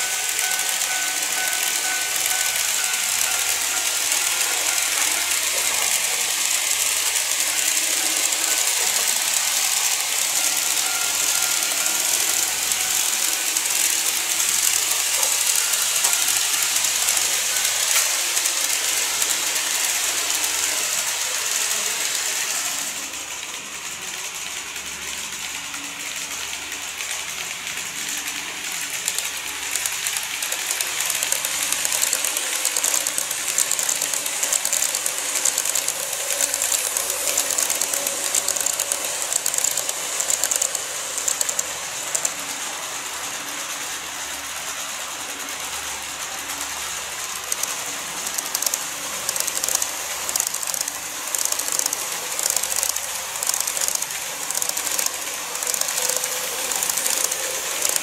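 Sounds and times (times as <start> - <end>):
model train rolling and clicking: 0.0 - 58.0.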